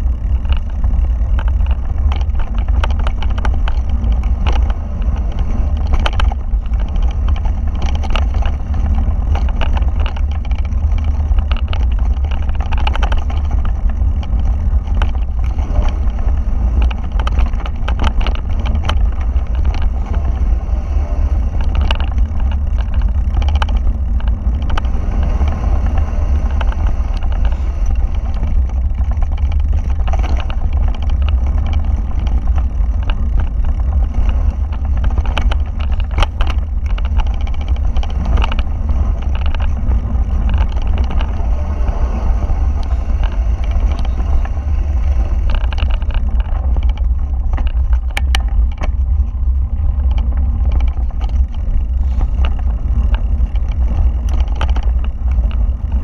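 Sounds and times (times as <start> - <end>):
bike rattling over rocks: 0.0 - 56.0
wind buffeting microphone: 0.0 - 56.0.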